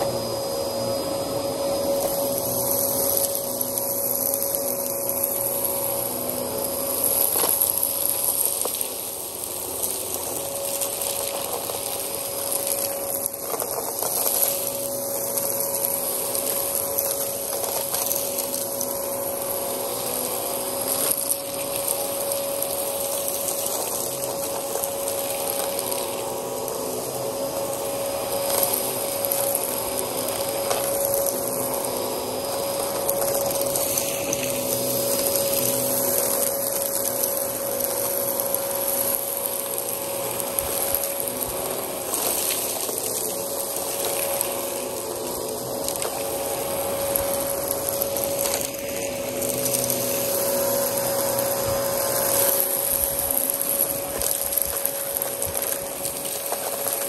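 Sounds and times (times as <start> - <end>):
grit clicking in vacuum: 0.0 - 57.0
vacuum cleaner motor whine: 0.0 - 57.0.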